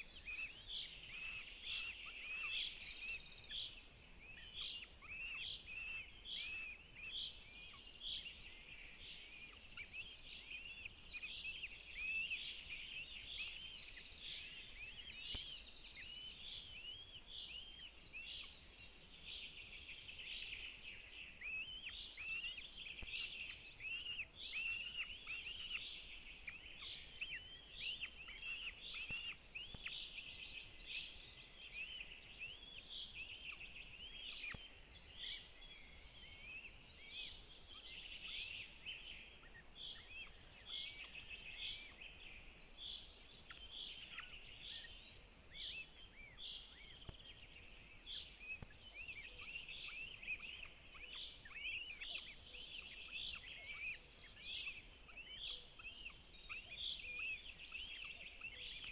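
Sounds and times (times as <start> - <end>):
birds chirping: 0.0 - 58.9.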